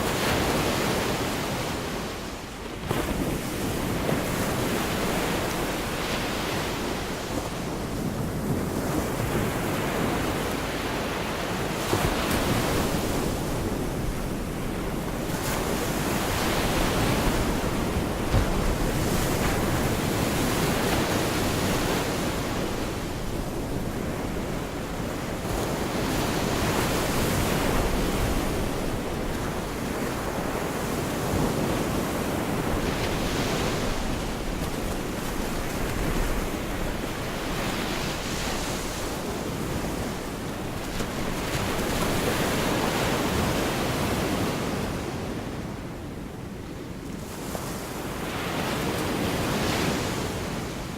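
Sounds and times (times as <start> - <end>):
wind buffeting microphone: 0.0 - 45.3
surf washing on beach: 0.0 - 50.9.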